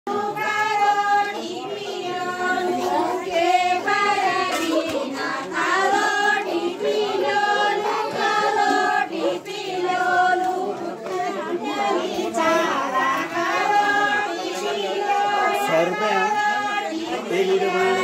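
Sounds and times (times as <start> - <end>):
women singing folk song: 0.1 - 18.0.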